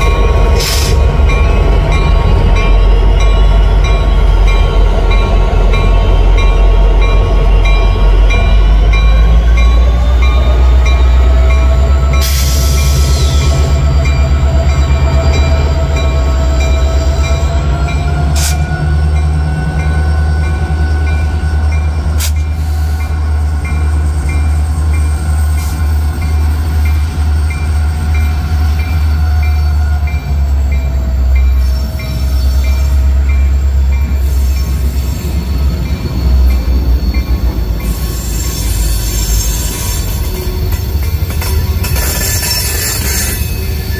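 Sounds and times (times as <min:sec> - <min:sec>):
diesel locomotives rumbling: 0:00.0 - 0:43.9.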